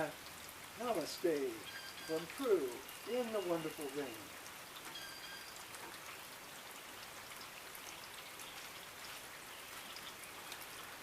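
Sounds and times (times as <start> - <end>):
rain drops pattering: 0.0 - 11.0.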